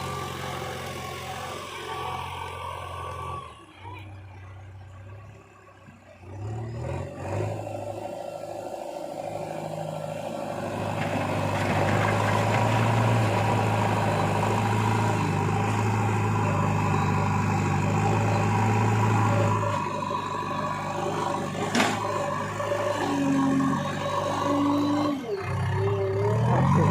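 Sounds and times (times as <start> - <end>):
heavy diesel engine revving: 0.0 - 5.4, 6.2 - 26.9.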